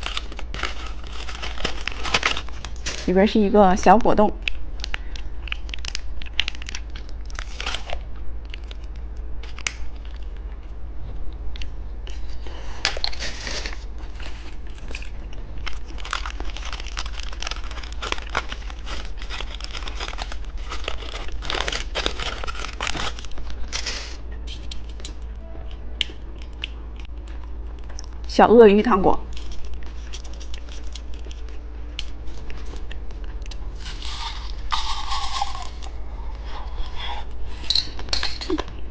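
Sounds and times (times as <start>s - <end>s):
plastic candy wrappers crinkling: 0.0s - 10.4s, 11.6s - 25.2s, 29.3s - 38.8s
steady low hum: 0.0s - 38.9s.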